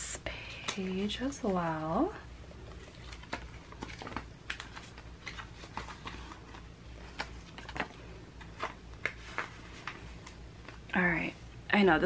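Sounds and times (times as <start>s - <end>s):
plastic sleeves crinkling: 0.6s - 11.3s.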